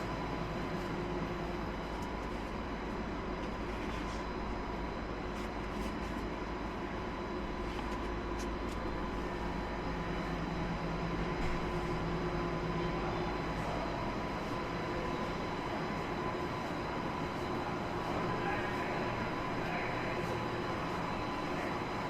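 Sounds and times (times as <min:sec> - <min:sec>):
factory machinery hum and hiss: 0:00.0 - 0:22.0.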